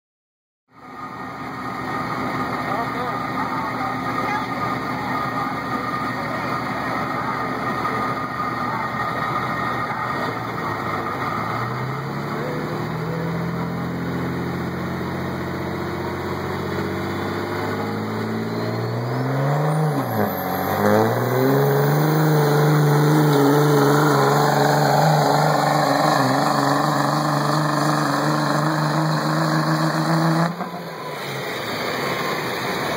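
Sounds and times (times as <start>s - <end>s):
diesel truck engine revving: 0.8s - 32.9s.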